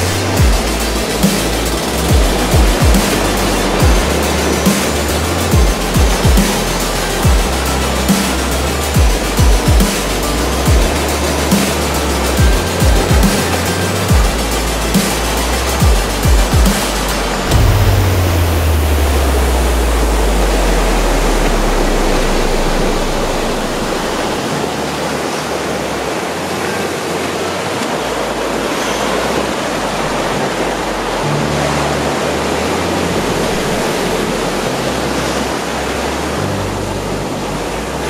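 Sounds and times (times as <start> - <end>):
background music with low bass: 0.0 - 38.0
ocean surf washing: 0.0 - 38.0.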